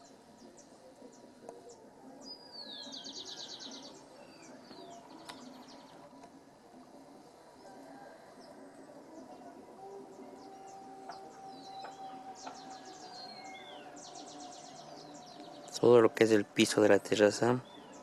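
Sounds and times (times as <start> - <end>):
bird singing with trill: 0.0 - 18.0
faint background murmur: 0.0 - 18.0
small birds chirping: 0.0 - 18.0.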